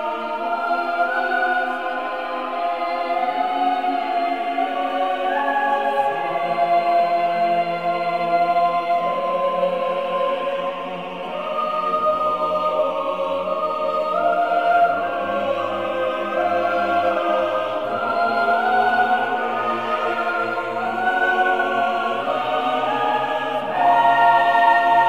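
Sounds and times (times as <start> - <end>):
choir-like voices holding chords: 0.0 - 25.0.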